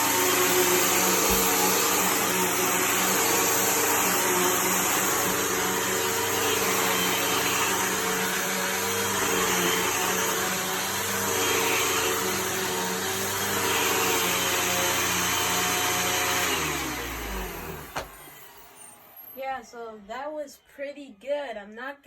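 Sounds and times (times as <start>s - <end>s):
vacuum cleaner running: 0.0s - 19.4s.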